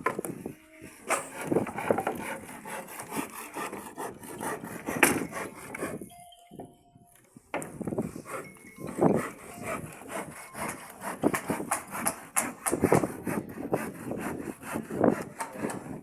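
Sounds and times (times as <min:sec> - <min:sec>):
hand saw cutting wood: 0:00.0 - 0:06.1, 0:07.6 - 0:16.0.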